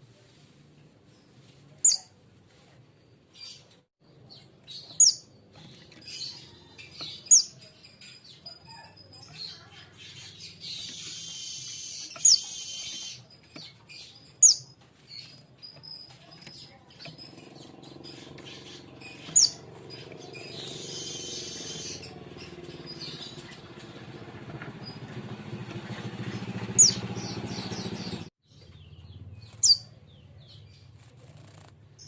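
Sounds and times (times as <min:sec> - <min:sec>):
fledgling bird chirping: 0:01.2 - 0:02.2, 0:02.9 - 0:32.0.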